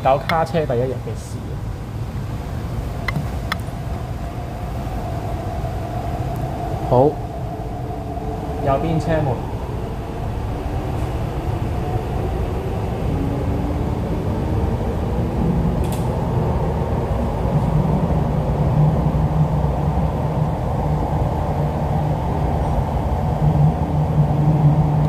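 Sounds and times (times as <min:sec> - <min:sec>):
low hum: 0:00.0 - 0:25.0
train wheels rumbling: 0:00.0 - 0:25.0.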